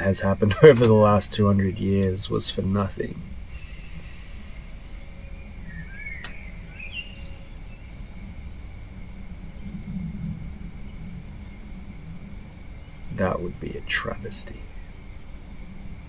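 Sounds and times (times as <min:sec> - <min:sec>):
thin steady high tone: 0:00.0 - 0:09.3, 0:11.0 - 0:16.0
birds chirping and whistling: 0:00.0 - 0:16.0
low outdoor rumble: 0:00.0 - 0:16.0.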